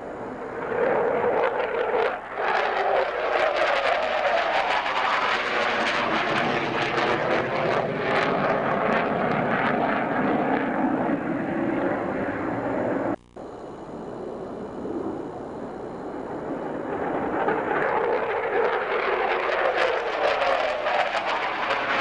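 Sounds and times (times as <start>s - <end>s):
fighter jet engine roar: 0.0s - 22.0s.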